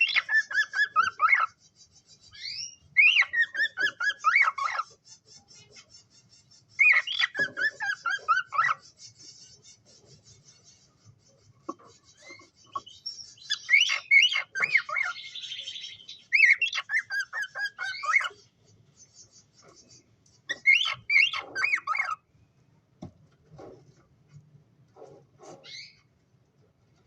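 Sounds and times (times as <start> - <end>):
cockatiels chirping: 0.0 - 22.3, 25.4 - 26.1.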